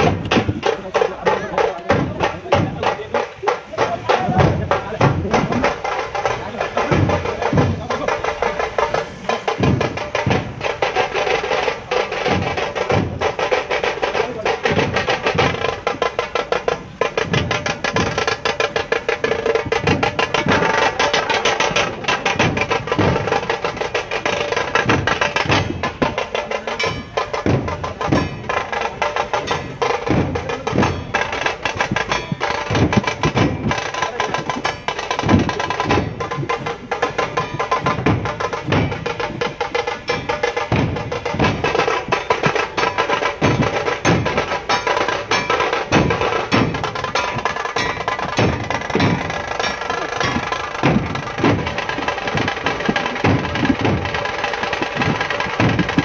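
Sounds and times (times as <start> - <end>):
music with drum and percussion beat: 0.0 - 56.0.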